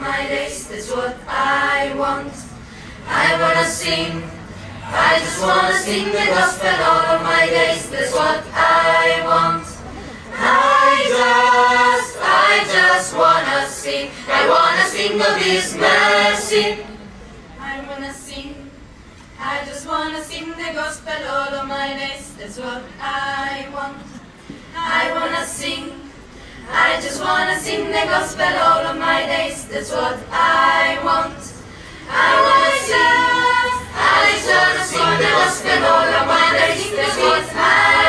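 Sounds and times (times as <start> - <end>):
choir singing a cappella: 0.0 - 17.0, 17.6 - 18.8, 19.4 - 38.0.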